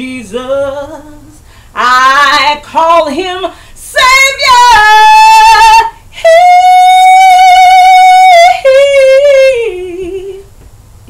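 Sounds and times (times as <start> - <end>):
woman singing gospel: 0.0 - 10.5.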